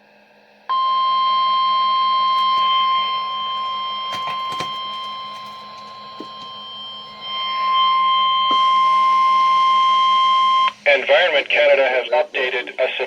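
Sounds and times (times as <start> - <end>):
weather radio alarm tone: 0.7 - 13.0.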